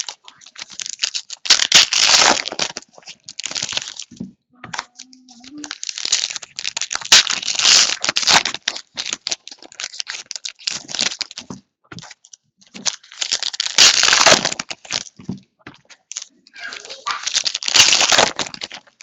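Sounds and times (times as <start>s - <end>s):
plastic wrapping crumpled and torn: 0.0s - 19.0s.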